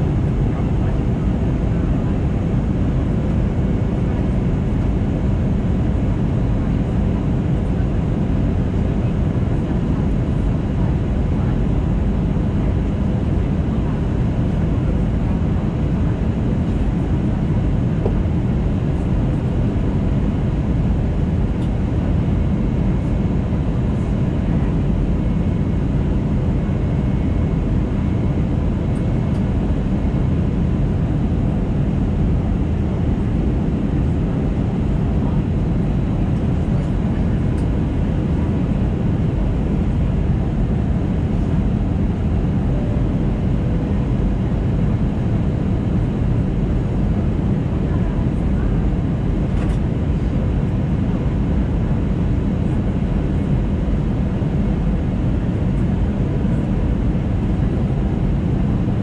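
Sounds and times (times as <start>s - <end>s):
airplane cabin engine and airflow: 0.0s - 59.0s.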